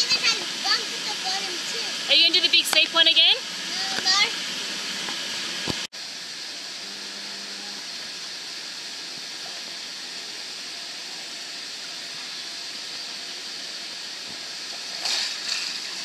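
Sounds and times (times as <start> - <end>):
steady water hiss: 0.0 - 16.0.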